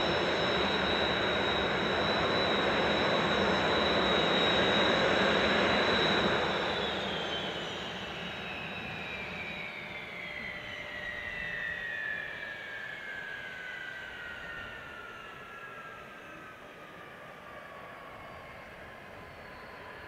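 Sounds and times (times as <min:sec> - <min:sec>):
jet engines winding down: 0:00.0 - 0:20.0.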